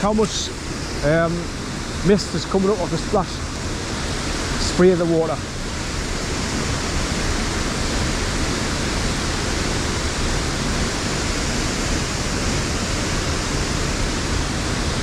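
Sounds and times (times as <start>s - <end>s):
waterfall crashing into pool: 0.0s - 15.0s.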